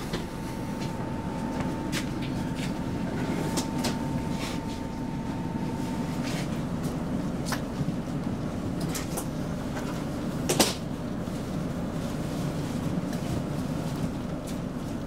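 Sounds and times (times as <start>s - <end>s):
railcar low rumble: 0.0s - 15.0s.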